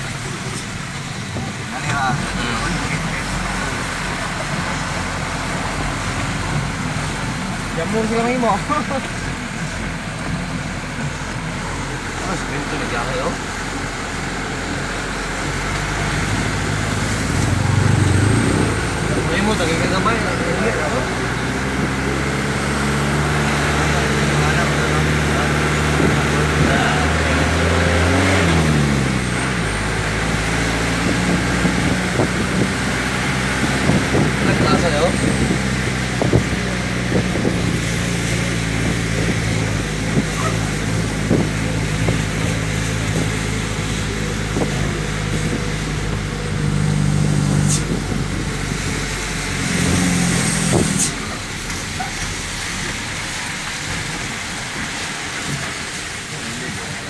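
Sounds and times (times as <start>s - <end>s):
road and wind noise: 0.0s - 57.0s
vehicle engine running: 0.0s - 57.0s.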